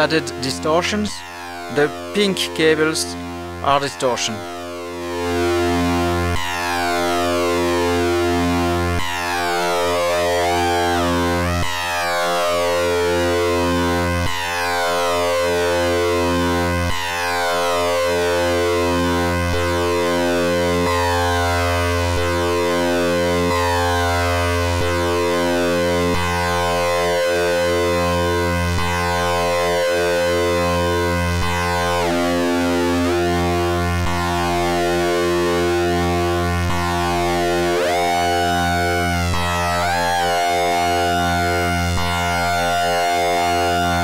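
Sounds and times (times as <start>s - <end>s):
synthesizer drone: 0.0s - 44.0s.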